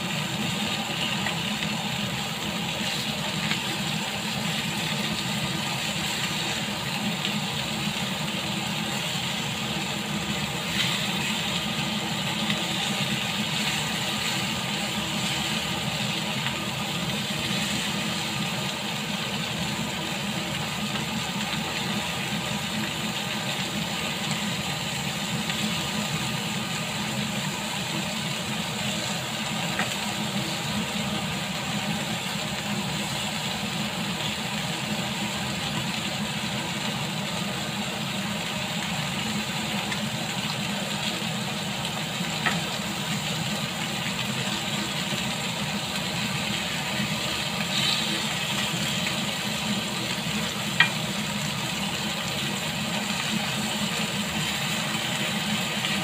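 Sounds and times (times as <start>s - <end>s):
meat sizzling in grill pan: 0.0s - 56.0s.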